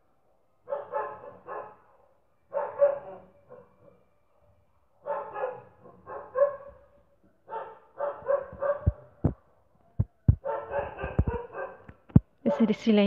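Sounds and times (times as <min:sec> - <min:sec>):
dog barking: 0:00.6 - 0:04.1, 0:05.0 - 0:09.2, 0:09.8 - 0:12.9.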